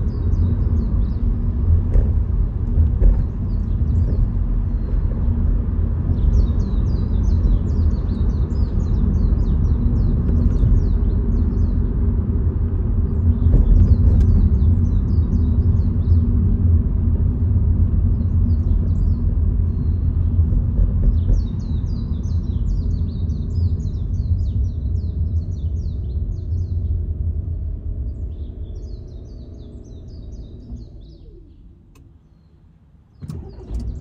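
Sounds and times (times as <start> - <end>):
birds chirping: 0.0 - 12.2, 18.1 - 34.0
car road rumble: 0.0 - 34.0.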